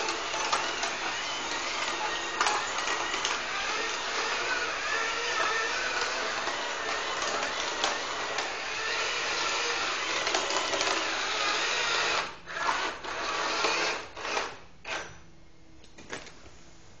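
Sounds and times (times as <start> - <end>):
small electric motors and gears whirring: 0.0 - 15.2.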